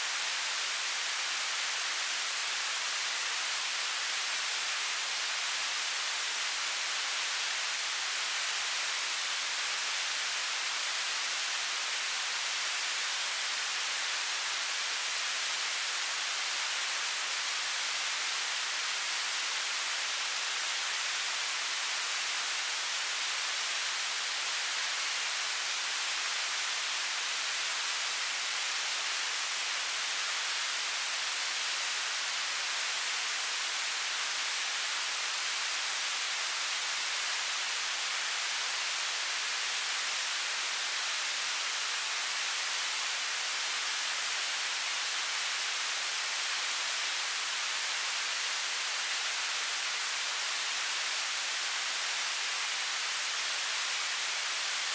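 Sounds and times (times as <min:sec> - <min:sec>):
television static hiss: 0:00.0 - 0:54.9.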